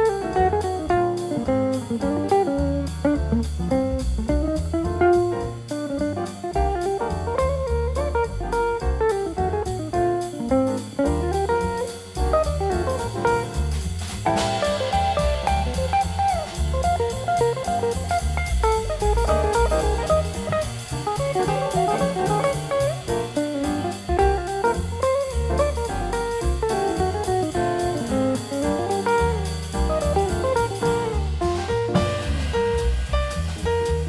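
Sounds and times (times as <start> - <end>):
drum kit beat: 0.0 - 34.0
jazzy guitar tune: 0.0 - 34.0.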